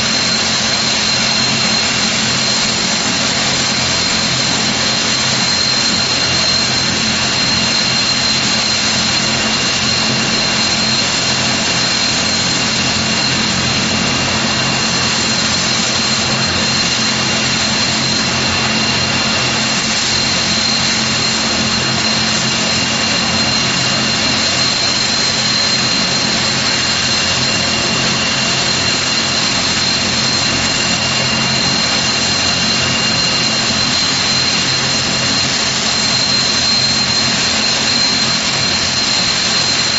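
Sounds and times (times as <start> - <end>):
high-pitched engine whine: 0.0 - 39.9
turboprop engines running: 0.0 - 39.9.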